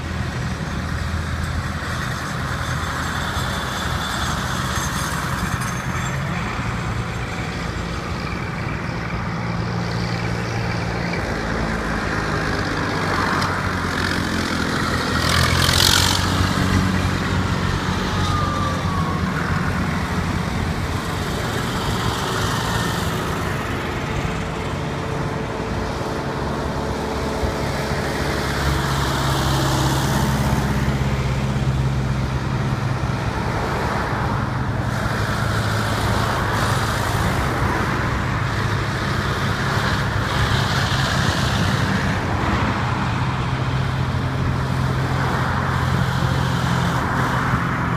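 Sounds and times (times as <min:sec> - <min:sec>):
tractor engines driving past: 0:00.0 - 0:47.9.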